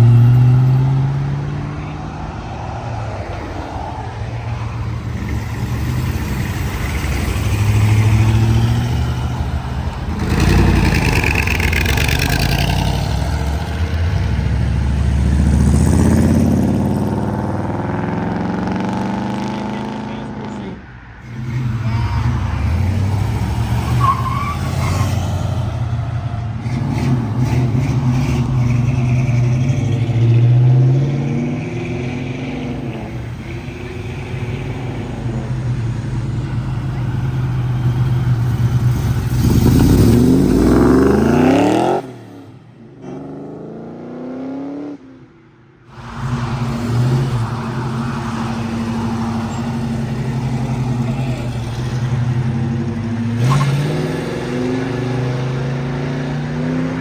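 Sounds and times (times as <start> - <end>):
car engines rumbling: 0.0 - 57.0
car accelerating hard: 4.8 - 20.7, 21.3 - 45.0, 45.9 - 57.0.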